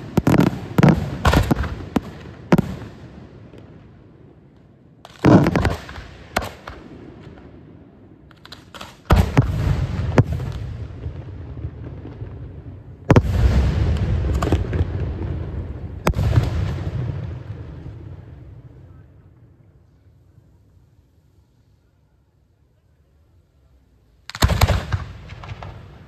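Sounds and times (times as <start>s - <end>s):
fireworks bursting with rumble: 0.0s - 21.9s, 23.9s - 26.0s.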